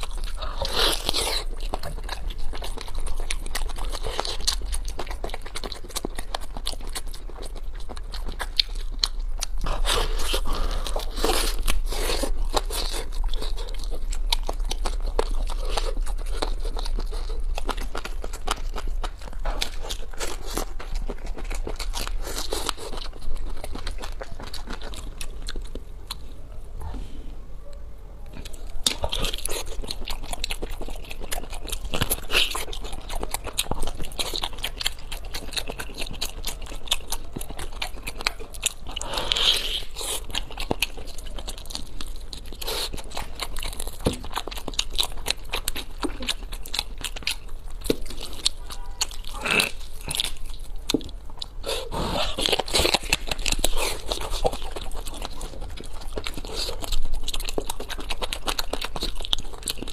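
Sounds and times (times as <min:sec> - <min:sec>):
biting and chewing meat: 0:00.0 - 0:26.8, 0:28.2 - 0:59.9.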